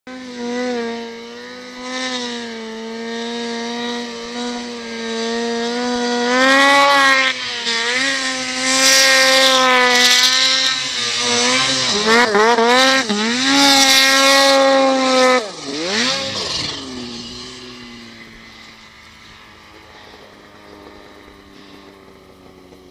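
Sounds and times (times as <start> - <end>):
snowmobile engine running hard: 0.1 - 22.9.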